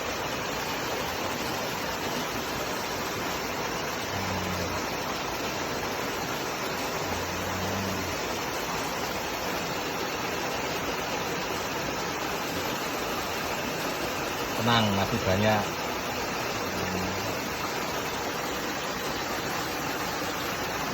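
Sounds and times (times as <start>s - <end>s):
flowing river water: 0.0s - 20.9s.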